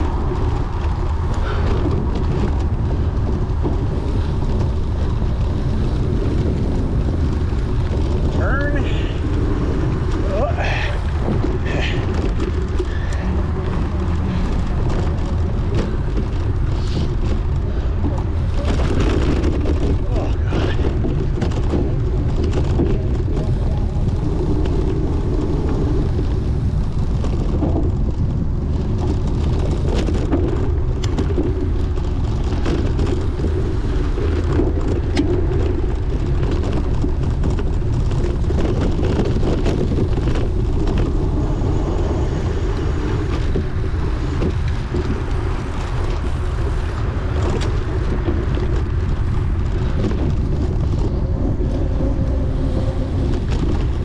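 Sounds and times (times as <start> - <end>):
bicycle rattling over rough ground: 0.0 - 54.0
clicks and knocks from bike: 0.0 - 54.0
wind rush on microphone: 0.0 - 54.0.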